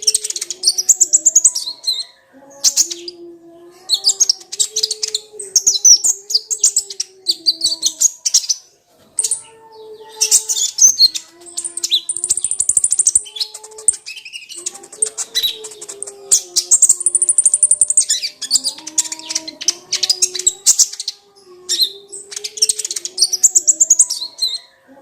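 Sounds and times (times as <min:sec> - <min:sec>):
sunbird chirping and trilling: 0:00.0 - 0:25.0.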